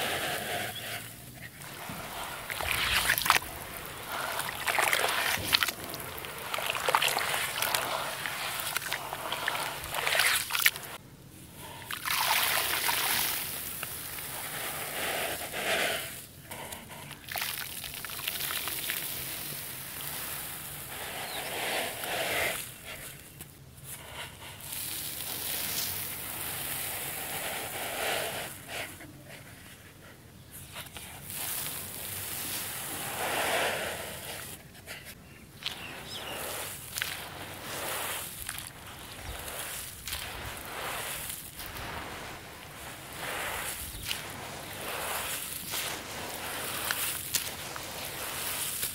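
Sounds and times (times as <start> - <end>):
dirt poured into water: 0.0 - 11.0, 11.8 - 16.3, 17.1 - 22.8, 24.6 - 28.7, 31.2 - 34.6, 35.4 - 48.9
hands squishing wet mud: 0.0 - 11.0, 11.8 - 27.8, 30.6 - 48.9.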